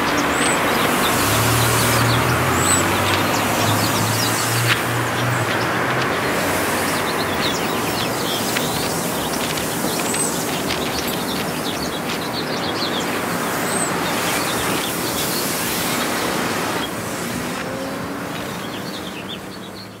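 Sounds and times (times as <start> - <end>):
road traffic hum: 0.0 - 20.0
small birds chirping: 0.0 - 20.0.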